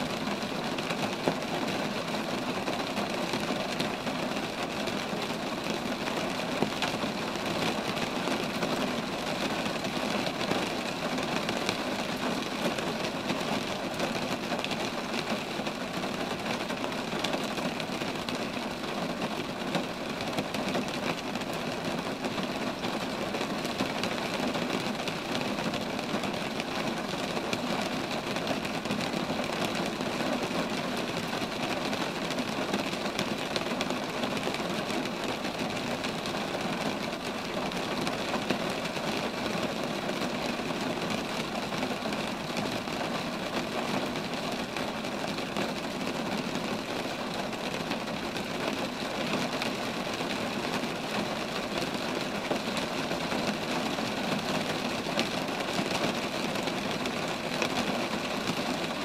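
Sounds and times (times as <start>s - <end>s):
rain falling on trees: 0.0s - 59.0s.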